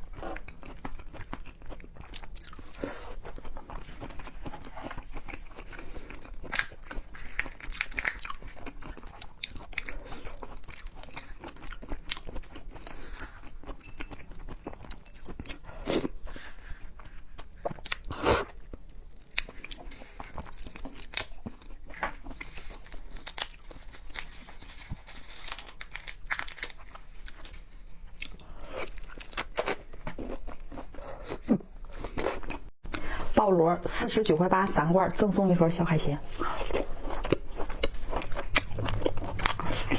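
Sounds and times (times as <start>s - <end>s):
person chewing crunchy food: 0.0s - 33.4s, 36.2s - 39.9s.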